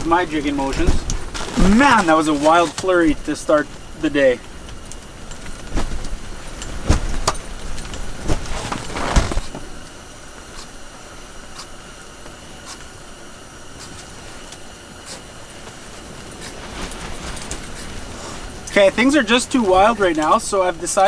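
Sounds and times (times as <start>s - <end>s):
gear knocks and rustles: 0.0s - 10.6s, 13.7s - 21.0s
blizzard wind hissing: 0.0s - 21.0s.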